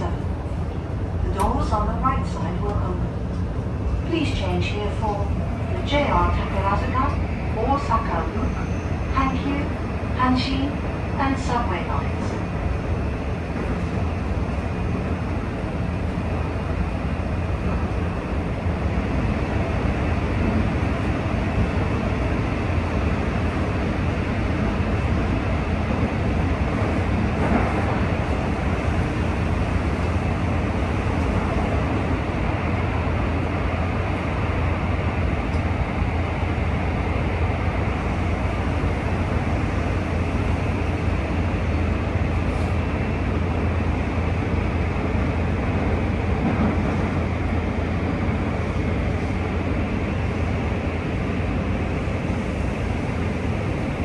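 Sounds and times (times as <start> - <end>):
train cabin rumble and hum: 0.0 - 54.0.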